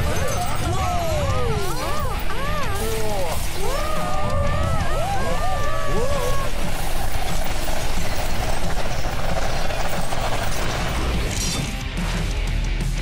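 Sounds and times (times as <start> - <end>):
cartoon mechanical transforming sounds: 0.0 - 11.6
action music: 0.0 - 13.0.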